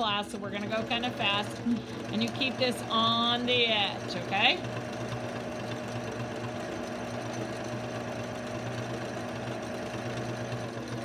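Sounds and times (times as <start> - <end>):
sewing machine running fast: 0.0 - 11.0.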